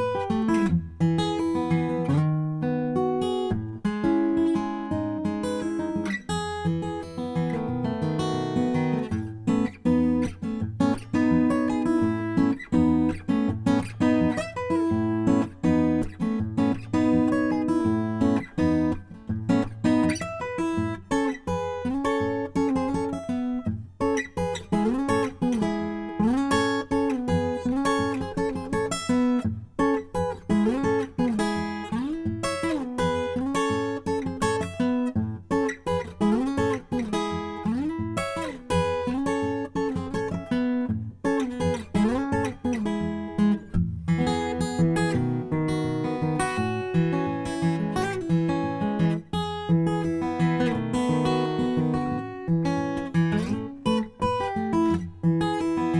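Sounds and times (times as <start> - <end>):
acoustic guitar instrumental: 0.0 - 55.9.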